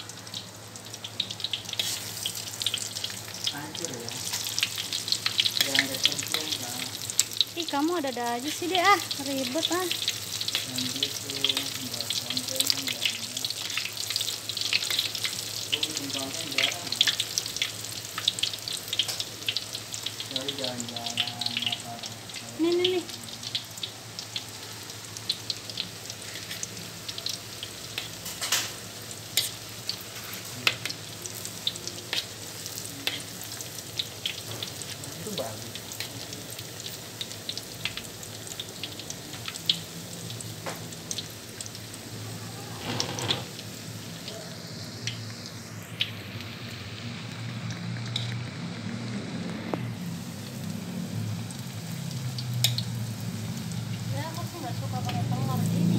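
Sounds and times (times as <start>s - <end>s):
fritters deep-frying in oil: 0.0s - 55.9s.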